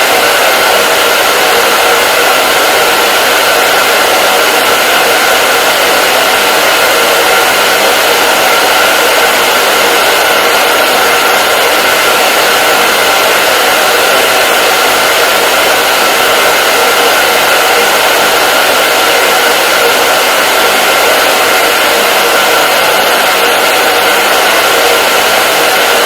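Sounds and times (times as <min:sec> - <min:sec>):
hair dryer blowing air: 0:00.0 - 0:26.0.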